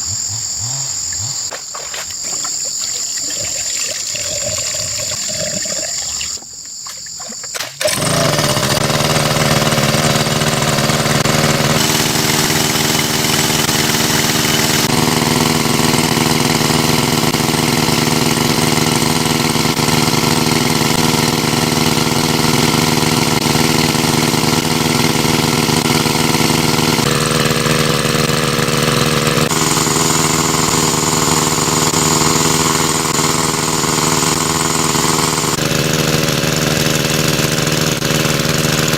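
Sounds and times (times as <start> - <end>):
water pump engine running: 0.0 - 38.9.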